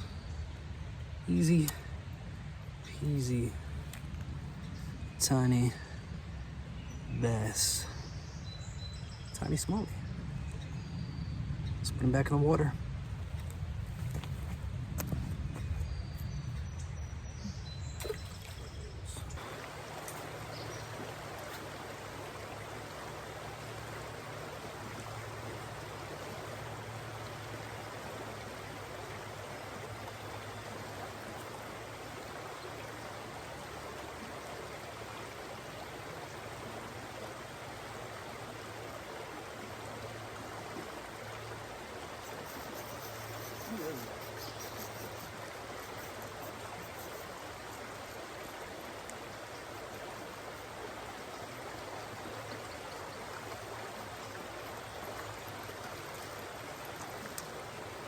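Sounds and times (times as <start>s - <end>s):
creek water running: 0.0s - 10.9s, 11.8s - 58.0s.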